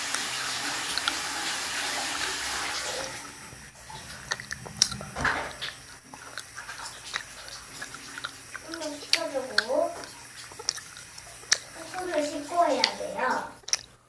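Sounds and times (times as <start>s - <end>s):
water running from a tap: 0.0s - 13.7s.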